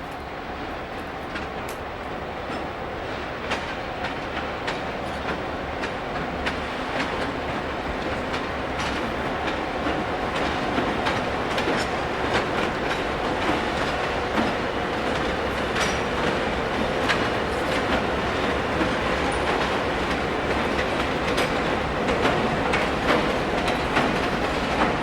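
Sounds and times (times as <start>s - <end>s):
freight train rumbling past: 0.0s - 25.0s
wheels clacking over rail joints: 3.4s - 25.0s.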